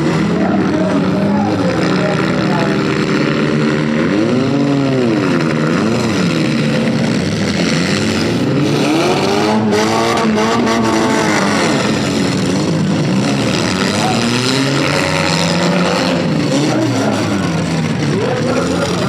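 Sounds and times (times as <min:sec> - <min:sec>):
car engines revving hard: 0:00.0 - 0:19.0.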